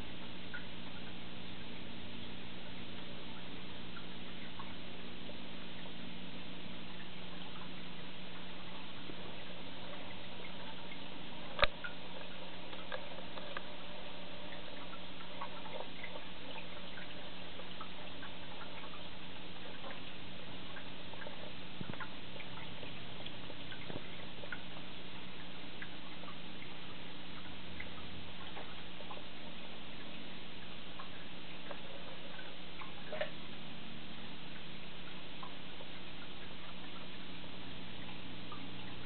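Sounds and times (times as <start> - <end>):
aquarium equipment hiss and hum: 0.0 - 39.0
water ticks and drips: 0.0 - 39.0.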